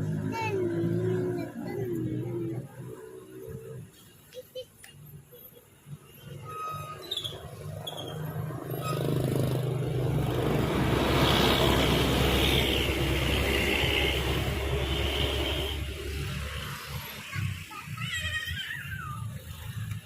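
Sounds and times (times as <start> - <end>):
bus approaching: 0.0 - 20.0.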